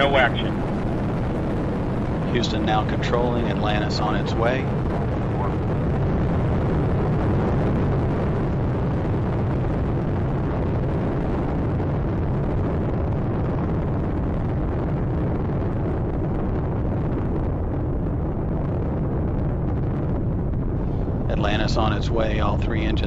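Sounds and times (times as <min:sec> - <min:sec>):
rocket launch roar: 0:00.0 - 0:23.0.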